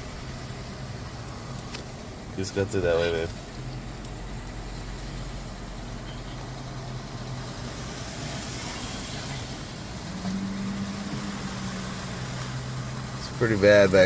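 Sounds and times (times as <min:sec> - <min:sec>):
car engine hum inside cabin: 0:00.0 - 0:14.0.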